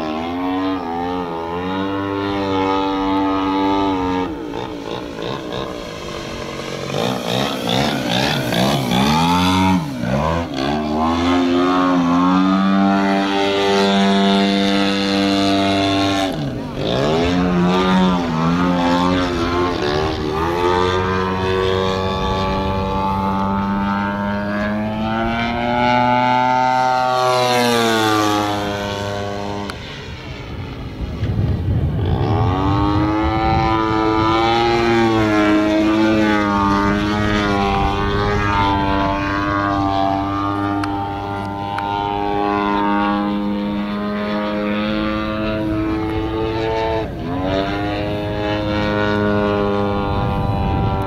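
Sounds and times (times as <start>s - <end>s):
model plane engine and propeller: 0.0s - 51.0s.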